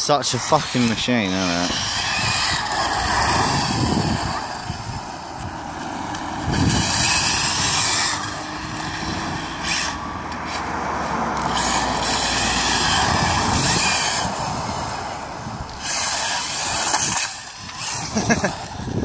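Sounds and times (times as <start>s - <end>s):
road traffic rushing: 0.0s - 19.0s
wind on microphone: 0.3s - 19.0s.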